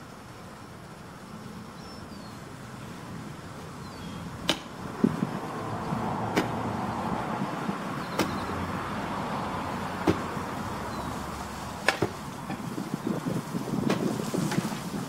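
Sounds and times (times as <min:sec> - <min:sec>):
engine-like hum: 0:00.0 - 0:15.0.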